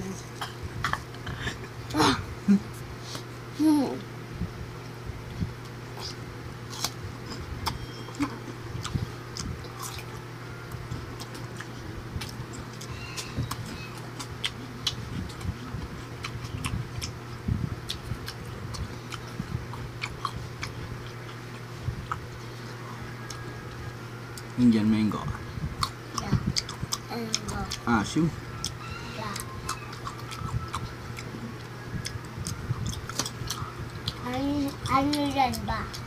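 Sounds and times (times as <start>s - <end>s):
steady low hum: 0.0s - 36.0s
crunching and chewing: 5.6s - 24.6s, 25.2s - 36.0s.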